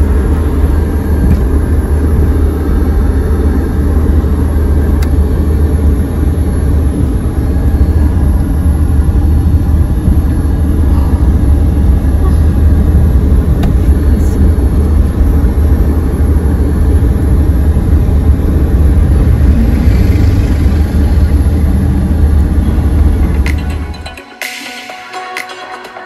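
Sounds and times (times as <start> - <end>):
car interior engine rumble: 0.0 - 24.2.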